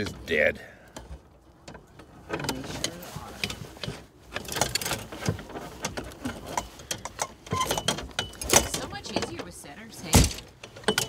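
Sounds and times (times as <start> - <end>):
gear rattling in metal canoe: 0.0 - 11.0.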